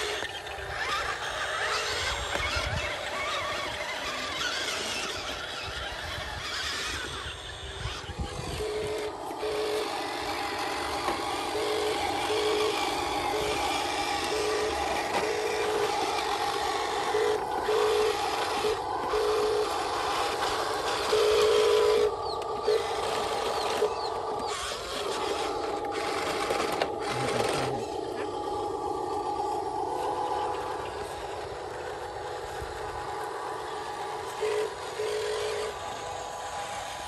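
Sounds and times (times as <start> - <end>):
toy truck motors whining: 0.0 - 37.0.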